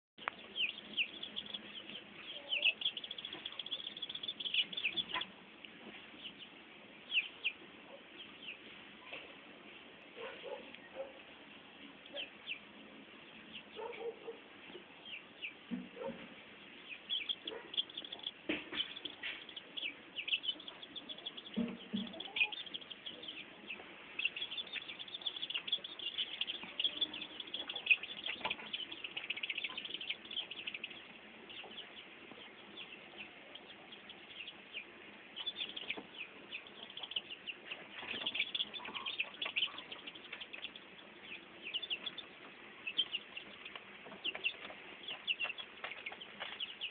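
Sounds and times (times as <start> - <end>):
chicks peeping: 0.2 - 46.9.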